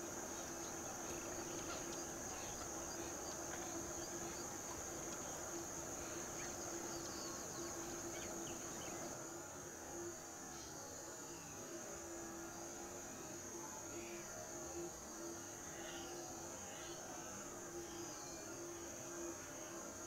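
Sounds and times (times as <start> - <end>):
low steady hum: 0.0 - 19.7
insect chorus drone: 0.0 - 20.0.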